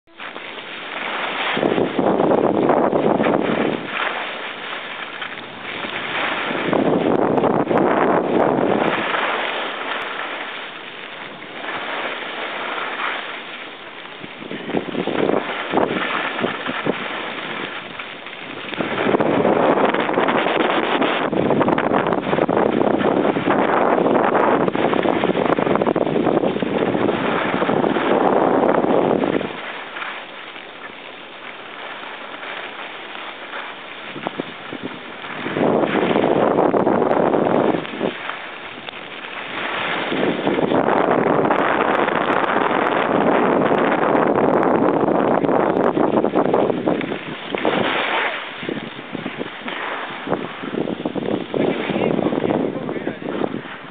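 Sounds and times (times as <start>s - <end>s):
wind rushing over microphone: 0.0s - 53.9s
skis sliding on snow: 0.1s - 53.9s.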